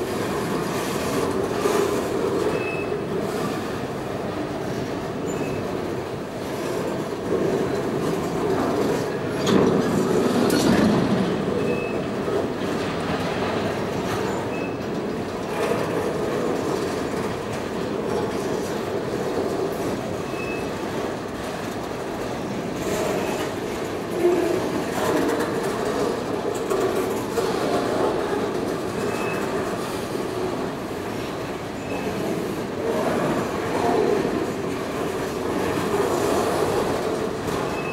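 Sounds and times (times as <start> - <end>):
steel wheels rumbling on rail: 0.0 - 37.9.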